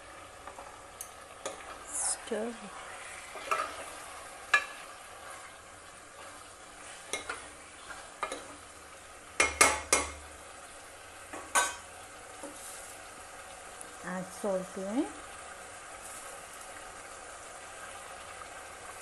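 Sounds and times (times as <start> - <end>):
frying sizzle: 0.0 - 19.0.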